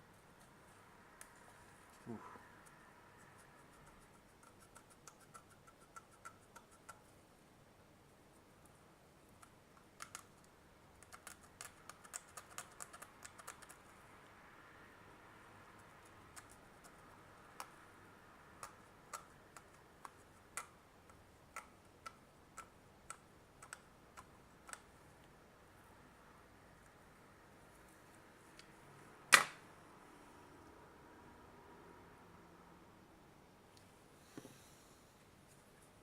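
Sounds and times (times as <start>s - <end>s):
soft scratchy hiss: 0.0s - 36.0s.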